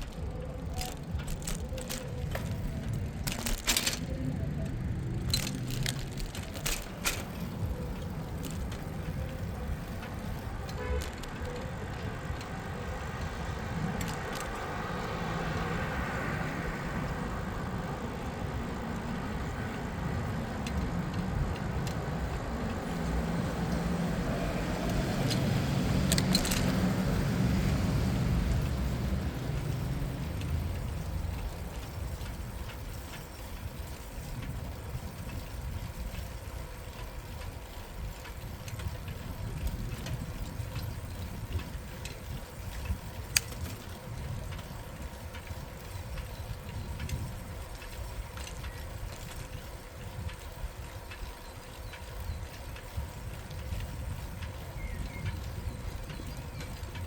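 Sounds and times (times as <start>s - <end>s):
bicycle tyres and wind rumble: 0.0s - 57.0s
passing traffic: 0.0s - 57.0s.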